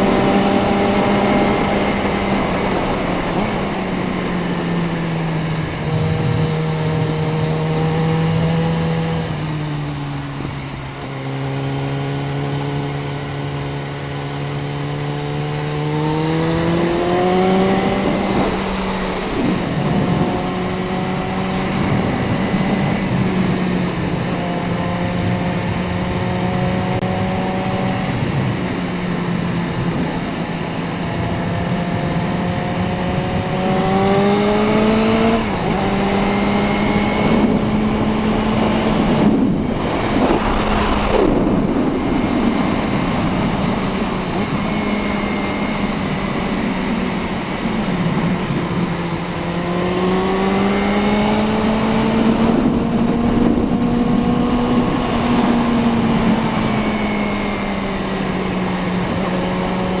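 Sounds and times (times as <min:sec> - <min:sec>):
motorcycle engine running: 0:00.0 - 1:00.0
wind rush over microphone: 0:00.0 - 1:00.0.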